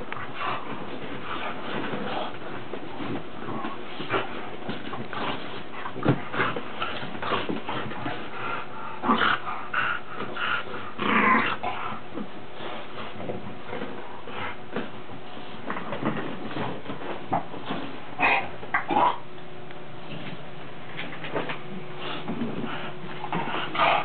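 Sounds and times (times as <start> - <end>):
dogs play-wrestling vocalizing: 0.0 - 19.2, 21.3 - 24.0.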